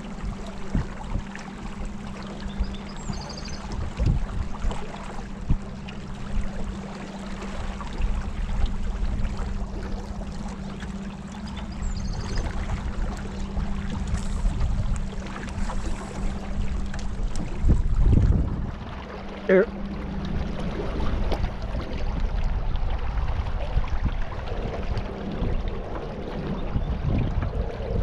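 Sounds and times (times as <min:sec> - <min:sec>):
steady low hum: 0:00.0 - 0:28.0
water splashing around a kayak: 0:00.0 - 0:28.0.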